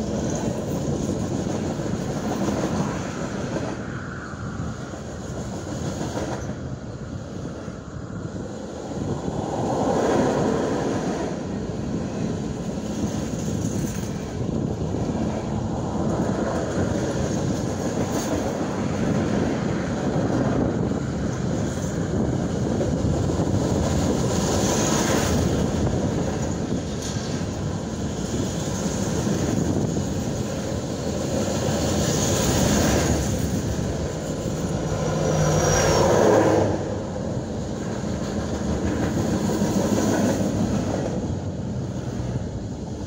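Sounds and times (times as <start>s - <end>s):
freight cars rumbling on rails: 0.0s - 43.0s.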